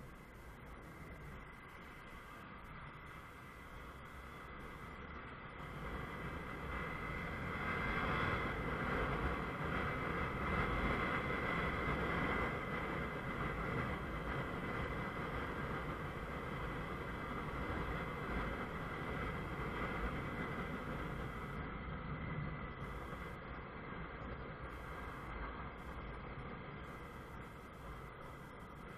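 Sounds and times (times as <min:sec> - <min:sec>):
road and wind noise: 0:00.0 - 0:28.9.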